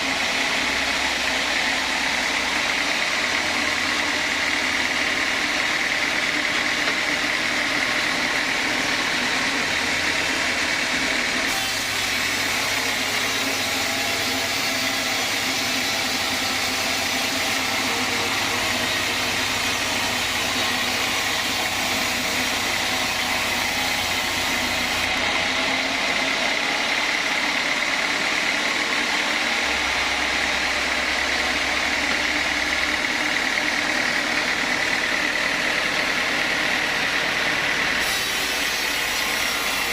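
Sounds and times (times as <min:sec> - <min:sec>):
sawmill saw running with whine: 0:00.0 - 0:39.9.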